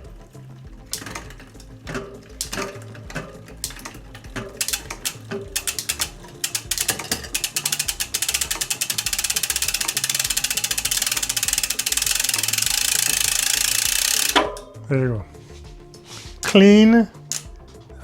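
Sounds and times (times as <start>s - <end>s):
bicycle freehub clicking: 0.0s - 14.7s, 17.2s - 17.7s.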